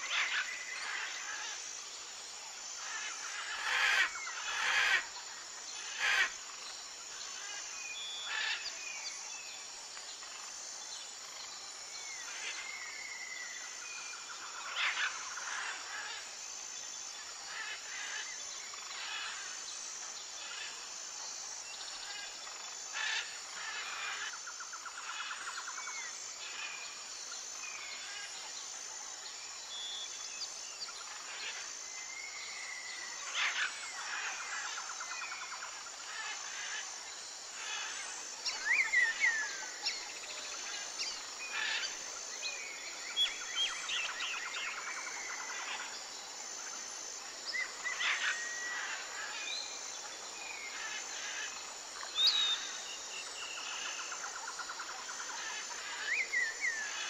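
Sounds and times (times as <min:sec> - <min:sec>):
steady outdoor hiss: 0:00.0 - 0:57.0.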